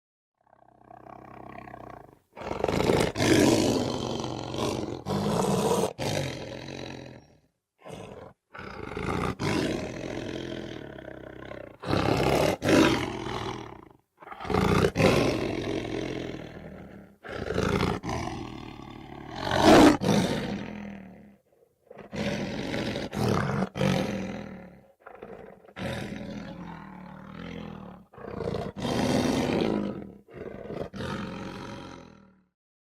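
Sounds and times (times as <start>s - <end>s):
big cat roars: 0.4s - 32.5s.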